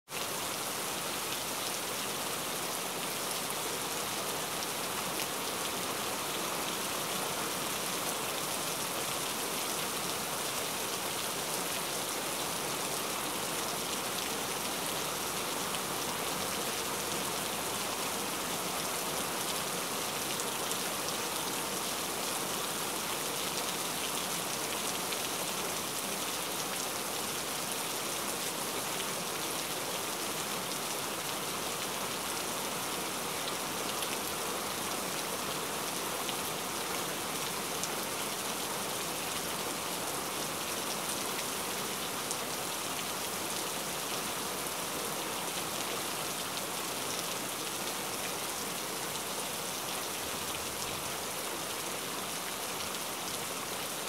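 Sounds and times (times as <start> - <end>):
heavy rain on a rooftop: 0.1 - 54.0.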